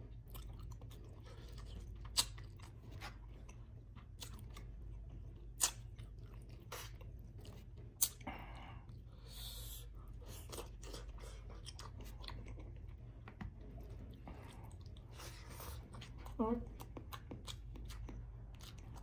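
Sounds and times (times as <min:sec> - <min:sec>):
close-up chewing: 0:00.0 - 0:19.0.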